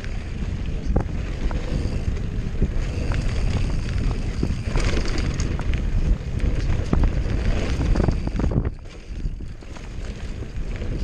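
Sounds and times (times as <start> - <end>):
bike rattling over bumps: 0.0 - 11.0
tyres rolling over dirt: 0.0 - 11.0
wind buffeting microphone: 0.0 - 11.0.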